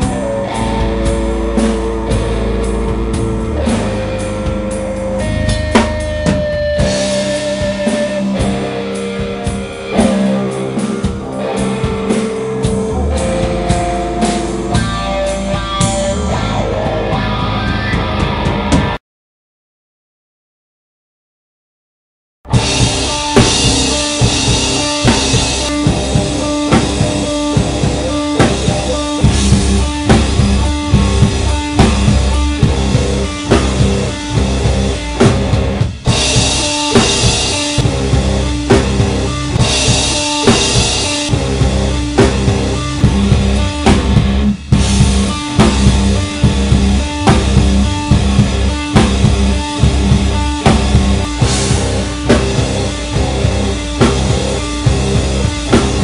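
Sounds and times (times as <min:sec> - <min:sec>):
drums steady beat: 0:00.0 - 0:19.0, 0:22.5 - 0:56.0
rock band playing live: 0:00.0 - 0:19.0, 0:22.5 - 0:56.0.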